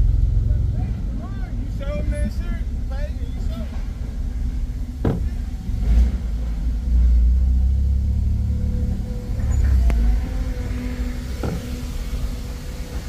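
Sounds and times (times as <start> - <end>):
car driving on dirt road: 0.0 - 13.0.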